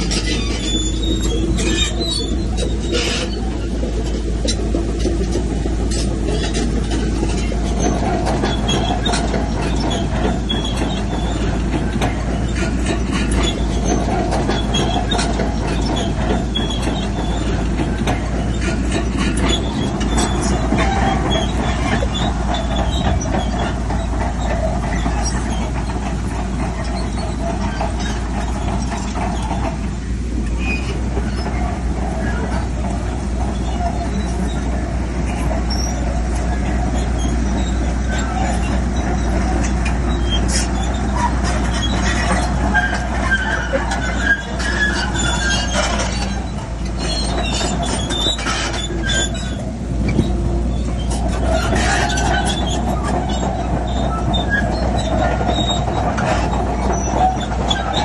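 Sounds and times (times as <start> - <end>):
diesel engine under load: 0.0 - 58.0
steel tracks clanking and squealing: 0.0 - 58.0.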